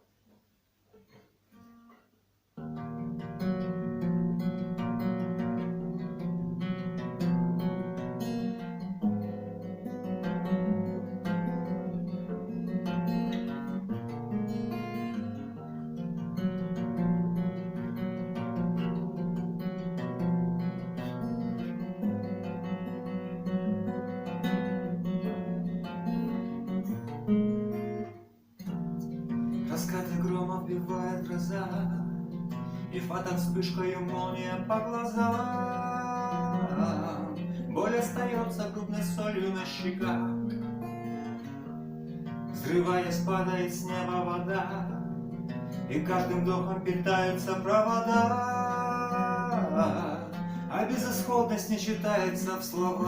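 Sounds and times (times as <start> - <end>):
acoustic guitar: 0.0 - 53.0.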